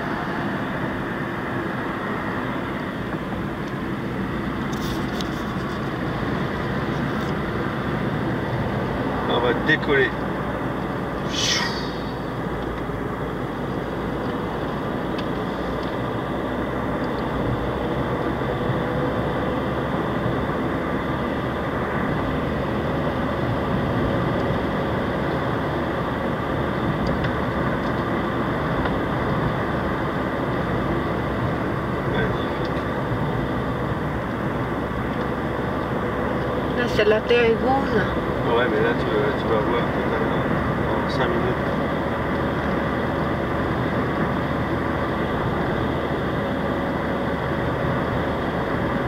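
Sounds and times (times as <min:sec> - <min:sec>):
car engine and tyre noise: 0:00.0 - 0:49.0.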